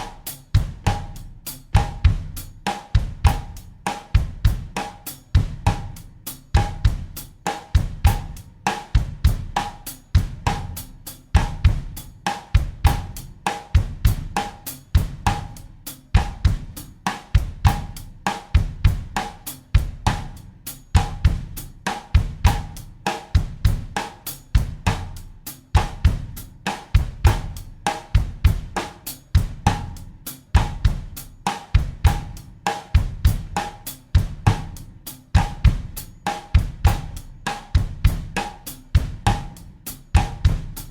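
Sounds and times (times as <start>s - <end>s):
drum kit playing a groove: 0.0s - 40.9s.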